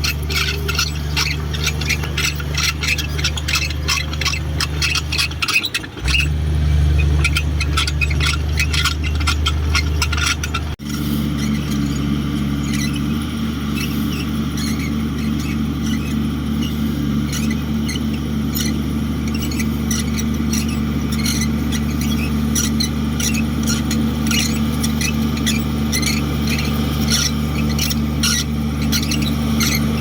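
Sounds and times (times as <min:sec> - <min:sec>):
diesel engine running: 0:00.0 - 0:30.0
high squeaks and clicks: 0:00.0 - 0:30.0.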